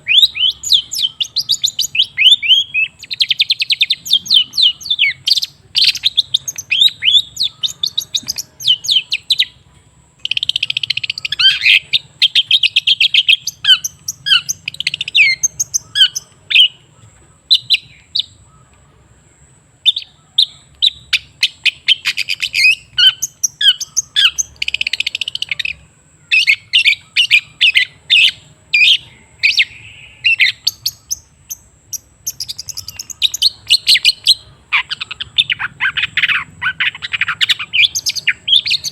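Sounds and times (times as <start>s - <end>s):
shrike chattering song: 0.0s - 38.9s.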